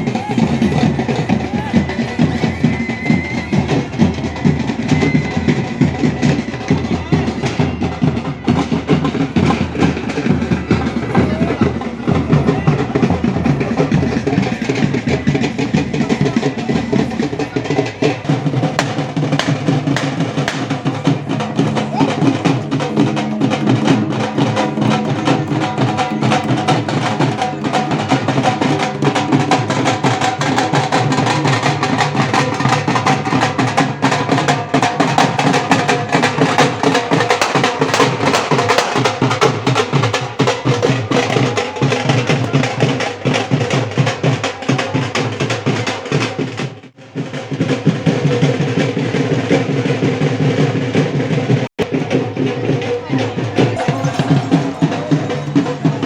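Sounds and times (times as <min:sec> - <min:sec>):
fast dense drumming: 0:00.0 - 0:56.0.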